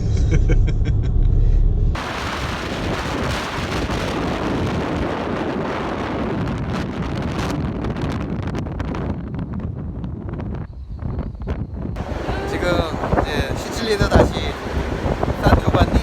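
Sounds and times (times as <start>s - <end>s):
wind buffeting microphone: 1.9s - 16.0s.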